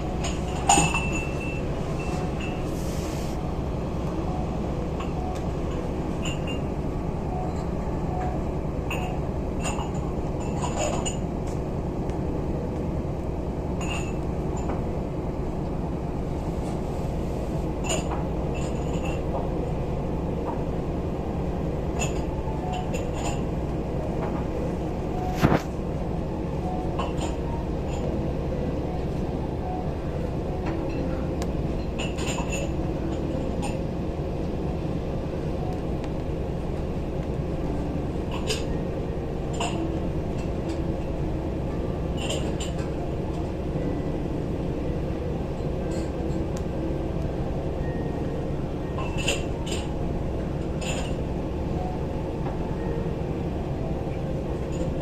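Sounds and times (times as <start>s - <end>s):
ship engines droning: 0.0s - 55.0s.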